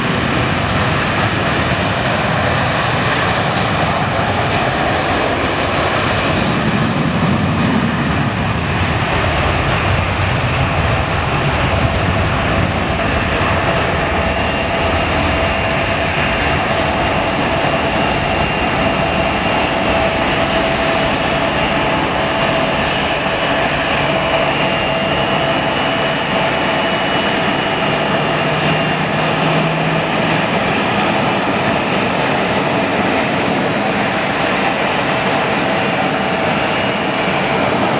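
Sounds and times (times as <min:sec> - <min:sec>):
high jet engine whine: 0:00.0 - 0:37.9
jet engines roaring at take-off: 0:00.0 - 0:37.9.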